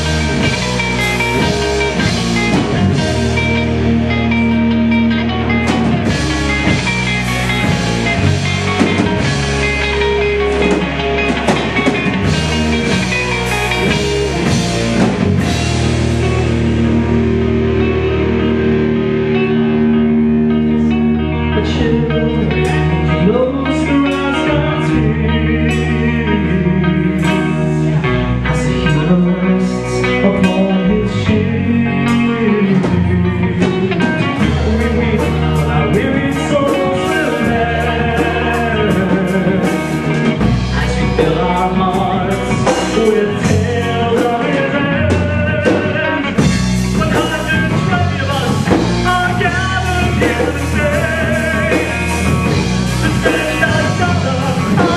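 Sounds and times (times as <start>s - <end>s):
live metal band playing: 0.0s - 54.9s
melodic lead line: 0.0s - 54.9s.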